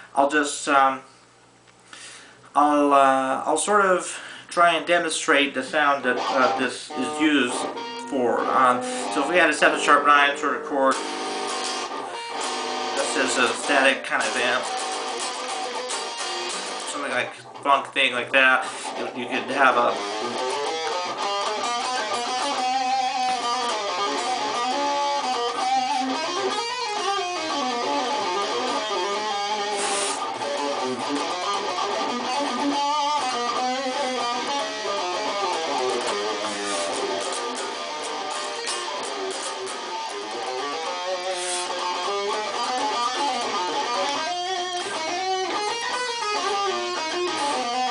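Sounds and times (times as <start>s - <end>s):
electric guitar single-note lines: 5.6s - 47.9s.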